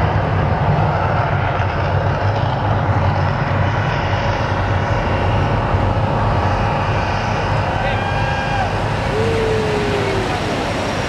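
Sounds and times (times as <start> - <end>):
low rumble with rushing noise: 0.0 - 11.0.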